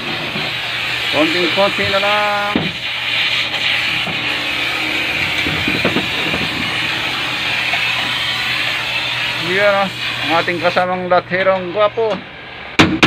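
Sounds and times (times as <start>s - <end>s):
welding torch hissing: 0.0s - 12.1s.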